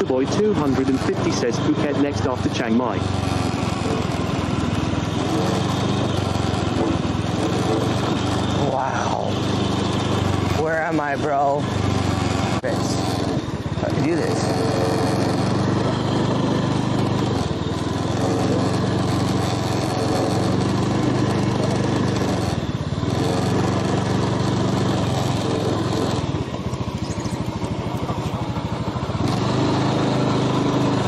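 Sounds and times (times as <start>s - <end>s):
small motorbike engine running: 0.0s - 31.0s.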